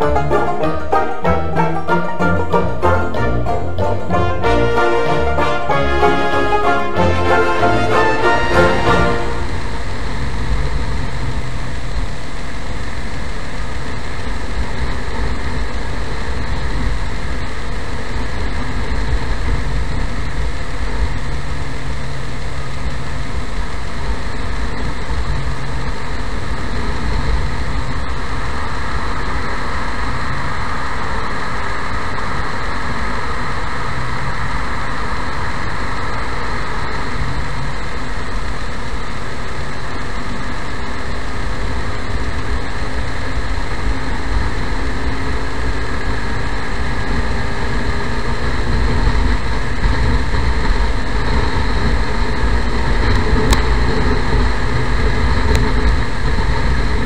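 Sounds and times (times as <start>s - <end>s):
wind and road noise: 0.0s - 57.0s
motorcycle engine running: 5.3s - 57.0s.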